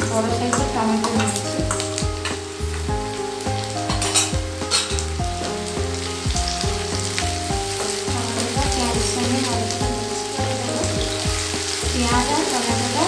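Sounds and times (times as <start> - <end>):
onions sizzling in hot oil: 0.0 - 13.0
soft instrumental music: 0.0 - 13.0.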